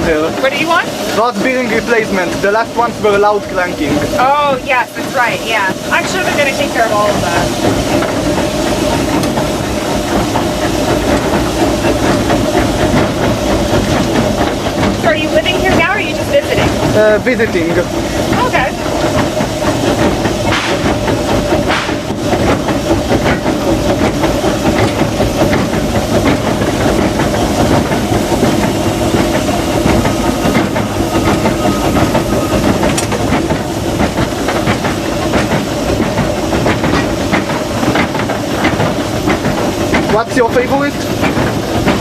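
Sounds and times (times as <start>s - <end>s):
steam hissing: 0.0s - 42.0s
wheels clattering on rails: 0.0s - 42.0s.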